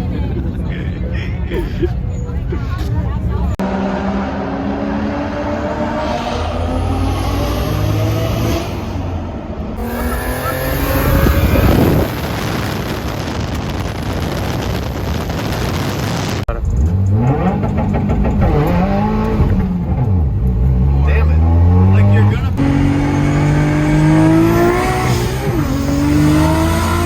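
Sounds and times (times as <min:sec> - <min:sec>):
car engines revving: 0:02.8 - 0:27.0.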